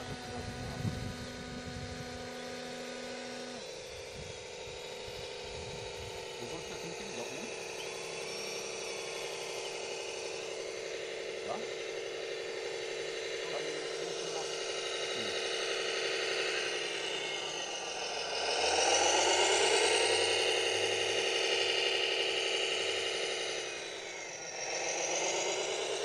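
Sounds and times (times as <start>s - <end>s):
electric motor whine: 0.0s - 26.0s.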